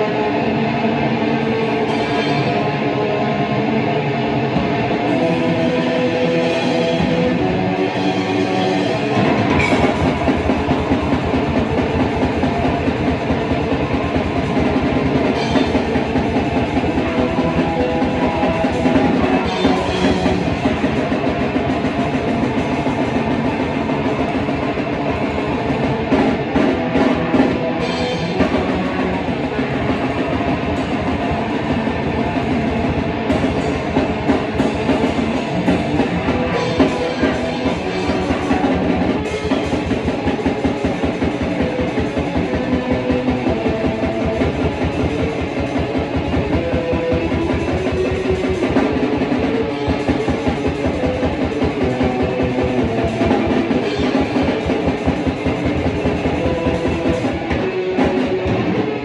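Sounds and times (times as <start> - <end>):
electric guitar riffing: 0.0 - 59.0
fast drumming on drum kit: 4.6 - 59.0.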